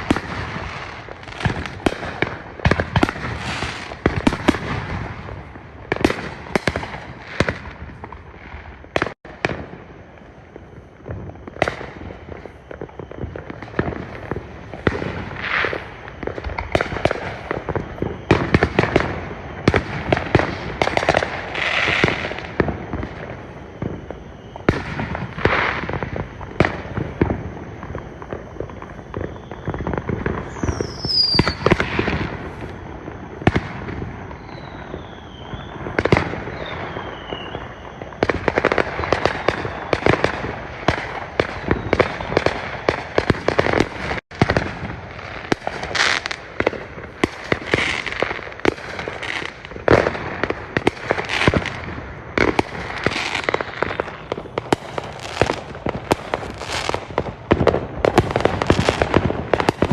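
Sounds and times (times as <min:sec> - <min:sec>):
falling firework whistles: 0:00.0 - 0:59.9
fireworks bangs and crackles: 0:00.0 - 0:59.9.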